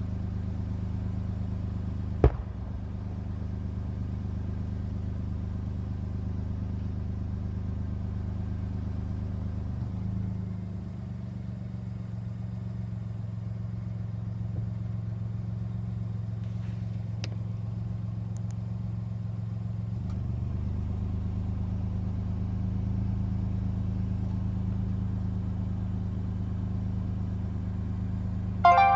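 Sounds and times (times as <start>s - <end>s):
low engine hum: 0.0s - 28.9s.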